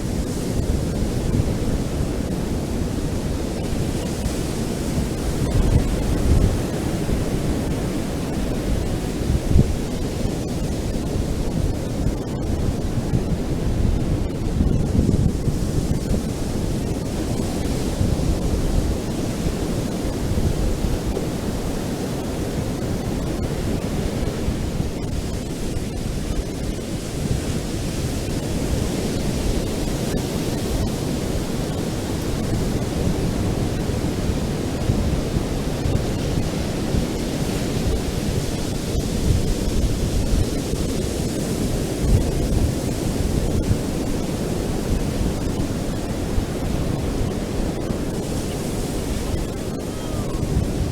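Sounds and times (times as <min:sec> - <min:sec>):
dull rumble of surf: 0:00.0 - 0:50.9.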